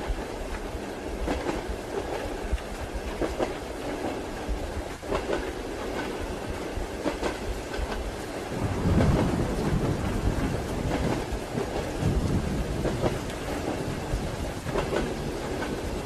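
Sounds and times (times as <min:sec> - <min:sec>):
rain hiss: 0:00.0 - 0:16.0
train carriage rumble: 0:00.0 - 0:16.0
train wheels clicking over joints: 0:00.0 - 0:16.0.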